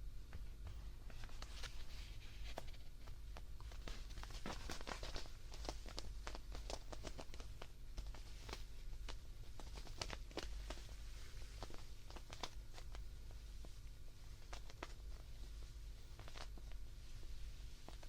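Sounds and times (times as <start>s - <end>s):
plush toy scratching: 1.1s - 16.9s.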